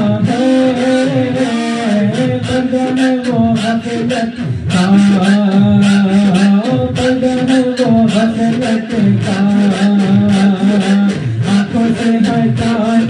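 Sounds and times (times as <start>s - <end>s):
man singing devotional song: 0.0s - 13.0s
steady percussive beat: 0.0s - 13.0s.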